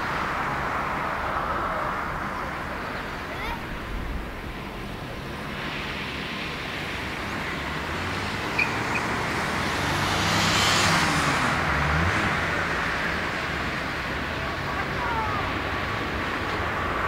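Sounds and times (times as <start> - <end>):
jet engines roaring at takeoff: 0.0 - 17.0.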